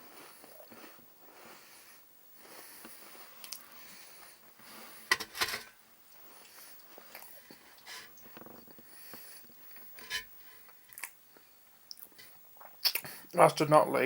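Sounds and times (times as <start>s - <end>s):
person chewing a biscuit: 0.0s - 5.1s, 6.2s - 9.8s, 10.6s - 13.3s.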